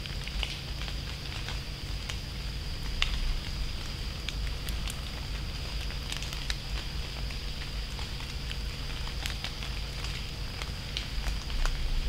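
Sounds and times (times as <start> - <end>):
acorns pattering on leaves: 0.0 - 12.0.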